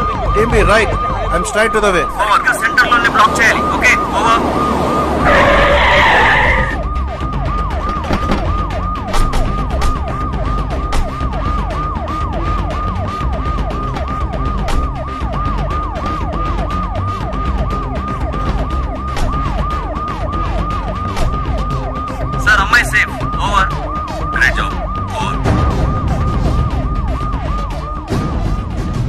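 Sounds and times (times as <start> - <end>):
police siren wailing: 0.0 - 29.0.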